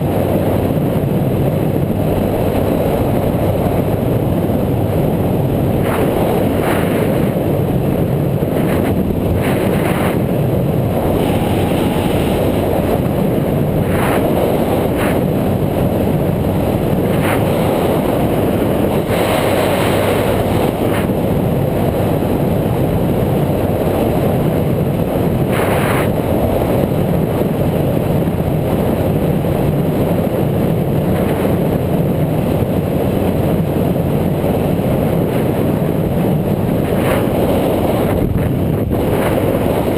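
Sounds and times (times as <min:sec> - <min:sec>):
bike rumble: 0:00.0 - 0:39.9
wind rush on microphone: 0:00.0 - 0:39.9.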